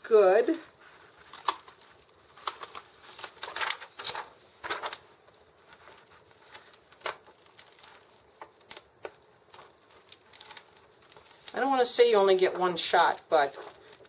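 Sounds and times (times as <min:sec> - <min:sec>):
plastic film rustling: 0:00.3 - 0:14.0.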